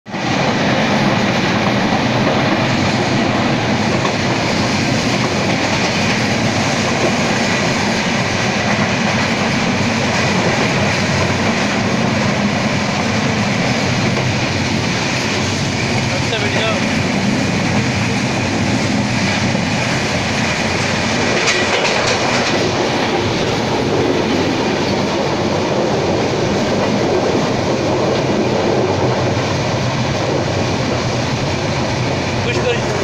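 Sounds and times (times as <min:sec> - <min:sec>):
train wheels rumbling on rails: 0:00.1 - 0:33.0
wind rushing past microphone: 0:00.1 - 0:33.0.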